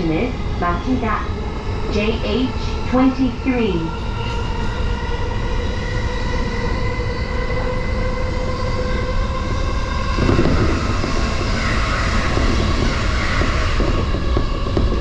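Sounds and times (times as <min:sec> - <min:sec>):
electric train motor whine: 0:00.0 - 0:15.0
train running rumble: 0:00.0 - 0:15.0.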